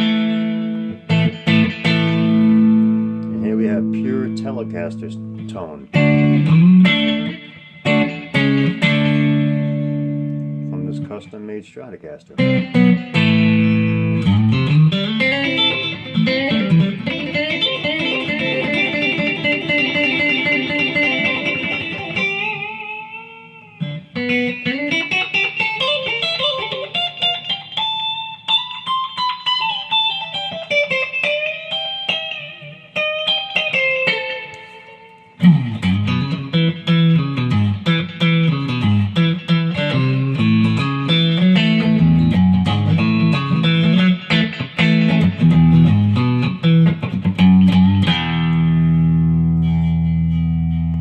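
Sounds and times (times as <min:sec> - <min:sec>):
electric guitar playing: 0:00.0 - 0:51.0.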